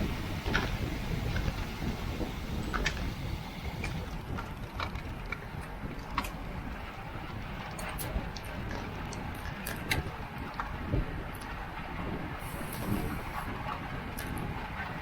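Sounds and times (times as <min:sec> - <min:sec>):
bicycle road rumble: 0:00.0 - 0:15.0
bicycle ticks and clicks: 0:00.0 - 0:15.0
wind: 0:00.0 - 0:15.0.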